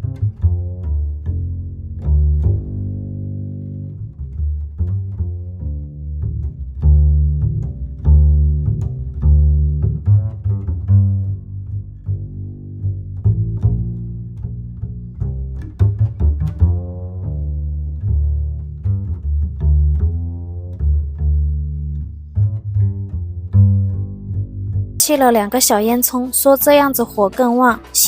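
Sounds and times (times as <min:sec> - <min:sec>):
low strings background music: 0:00.0 - 0:28.0.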